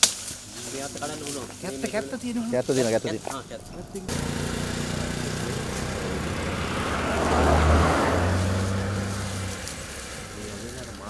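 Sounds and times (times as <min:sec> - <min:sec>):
vehicle engine droning: 0:00.7 - 0:11.0.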